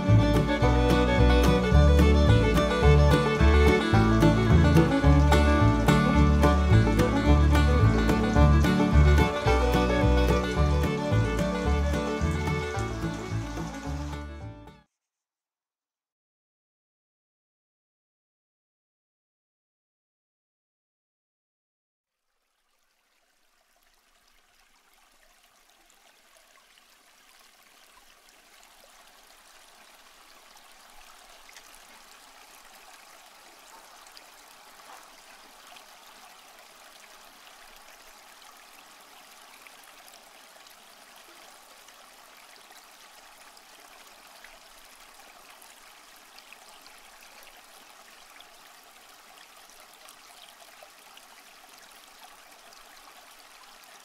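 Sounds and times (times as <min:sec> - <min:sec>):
waterfall splashing into pond: 0:00.0 - 0:14.5, 0:22.1 - 0:54.0.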